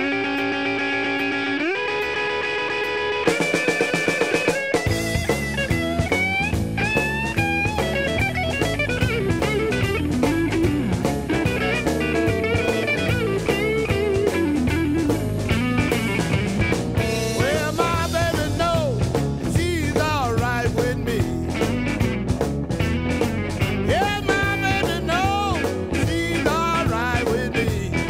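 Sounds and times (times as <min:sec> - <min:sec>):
electric guitar with bending pitch: 0:00.0 - 0:28.0
rock music: 0:00.0 - 0:28.0
steady drum beat: 0:03.3 - 0:28.0.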